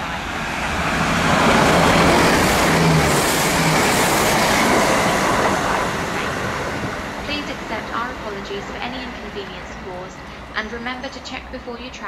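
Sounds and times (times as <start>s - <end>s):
train wheel and rail rush: 0.0s - 12.0s.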